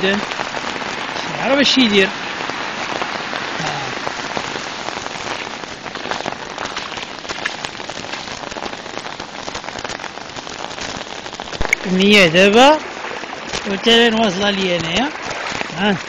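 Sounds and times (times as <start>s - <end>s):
floodwater rushing across road: 0.0s - 16.0s
small water splashes: 0.0s - 16.0s.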